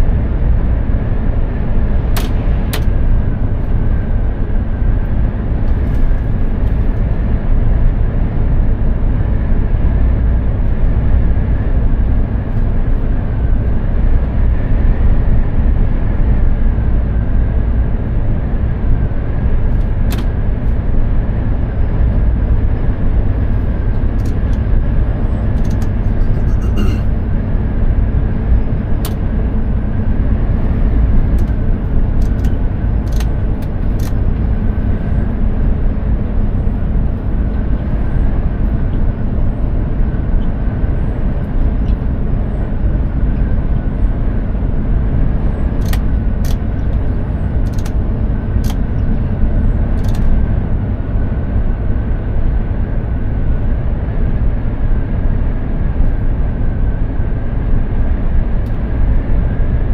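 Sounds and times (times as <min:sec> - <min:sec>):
tyre and road noise: 0:00.0 - 0:08.6, 0:09.2 - 0:51.2
truck diesel engine droning: 0:00.0 - 0:59.9.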